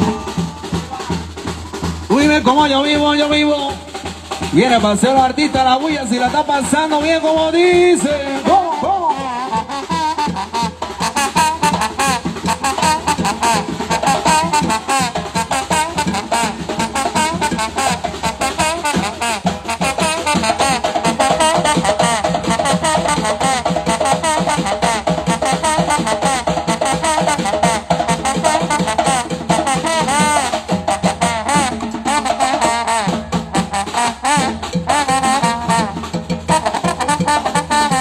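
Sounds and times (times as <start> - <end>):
samba percussion band drumming: 0.0 - 38.0.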